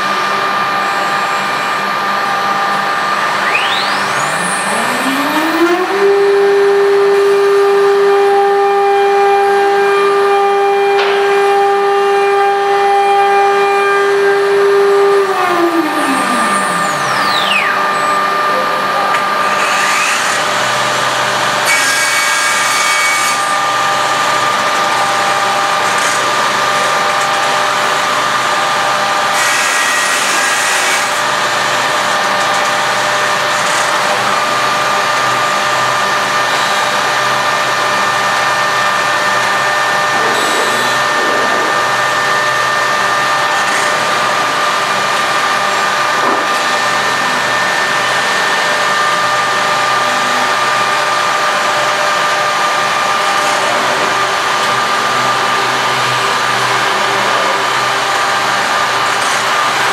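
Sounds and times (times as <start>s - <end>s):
spindle whine: 0.0s - 59.9s.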